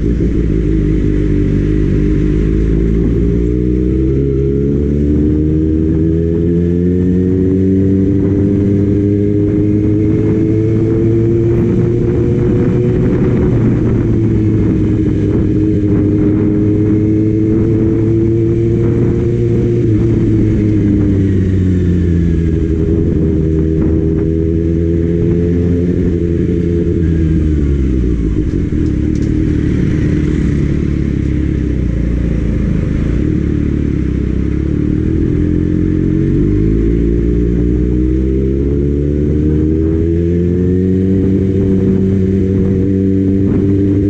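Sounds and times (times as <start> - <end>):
motorcycle engine accelerating: 0.0 - 44.0
wind noise on microphone: 0.0 - 44.0.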